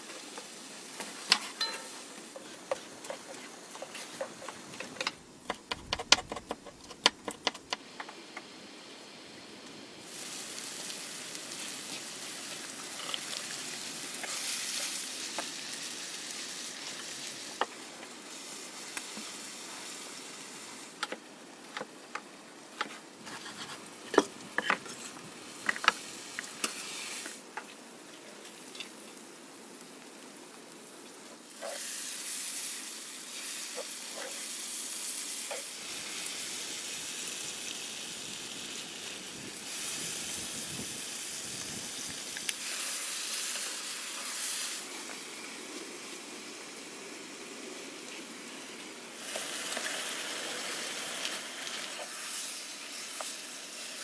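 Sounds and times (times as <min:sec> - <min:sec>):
food sizzling in a pan: 0:00.0 - 0:06.1, 0:06.9 - 0:54.0.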